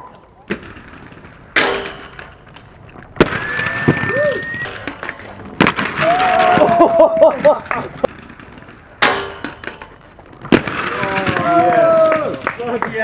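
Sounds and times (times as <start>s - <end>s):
skateboard cracks: 0.0s - 13.0s
skateboard wheels rolling: 0.0s - 13.0s.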